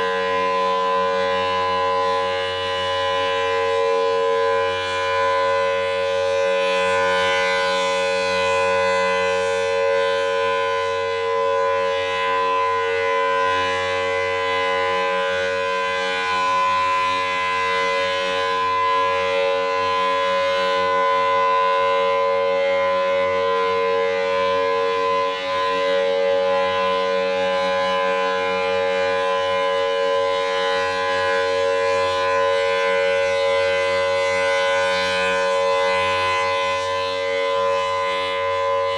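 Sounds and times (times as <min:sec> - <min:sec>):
civil defense siren steady tone: 0:00.0 - 0:38.9.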